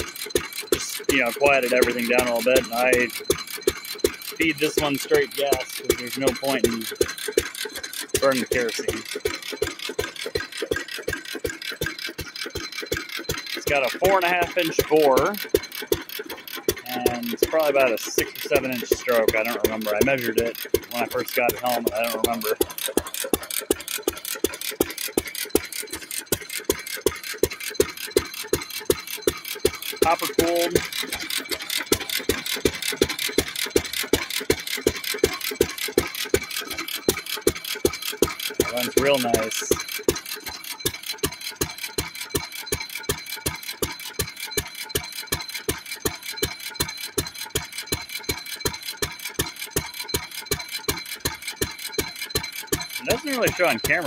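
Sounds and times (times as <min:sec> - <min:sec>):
mechanical clicks: 0:00.0 - 0:54.0
single-cylinder engine exhaust beats: 0:00.0 - 0:54.0.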